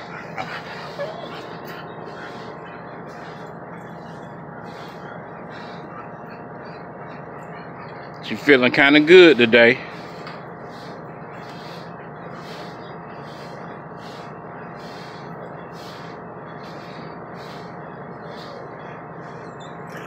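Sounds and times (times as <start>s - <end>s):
dog panting: 0.0s - 20.0s
steady low hum: 0.0s - 20.0s.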